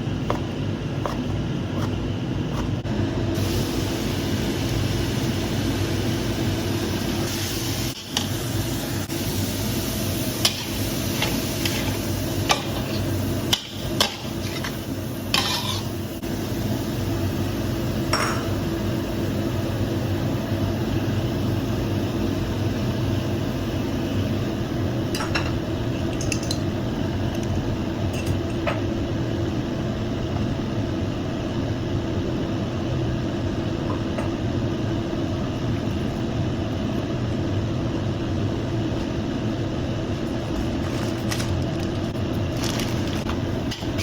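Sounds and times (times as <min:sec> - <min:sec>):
stove hum: 0:00.0 - 0:44.0.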